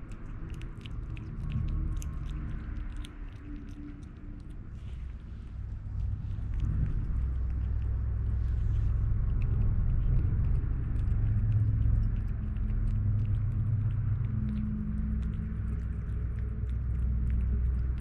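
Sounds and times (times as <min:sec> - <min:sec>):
kittens chewing and smacking: 0:00.0 - 0:18.0
steady low rumble: 0:00.0 - 0:18.0.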